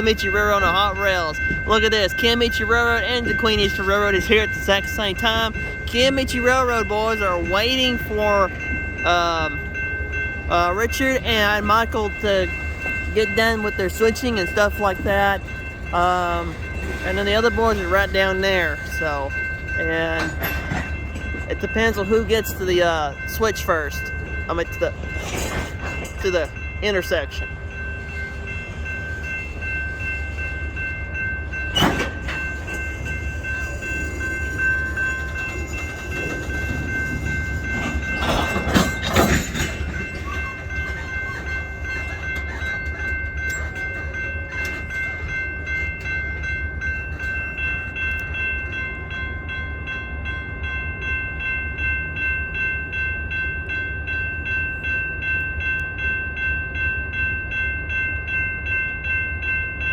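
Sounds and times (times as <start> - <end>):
diesel locomotive low rumble: 0.0 - 59.9
high ringing tone: 0.0 - 59.9.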